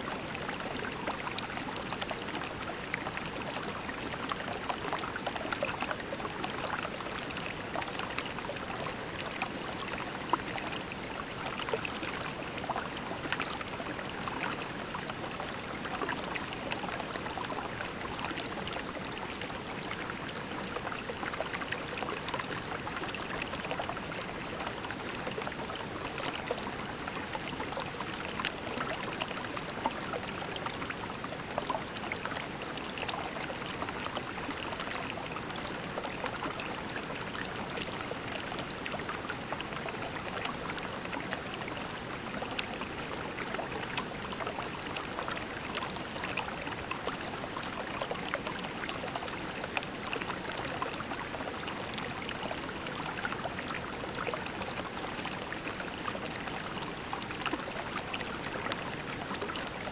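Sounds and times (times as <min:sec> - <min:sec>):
creek babbling over pebbles: 0:00.0 - 0:59.9.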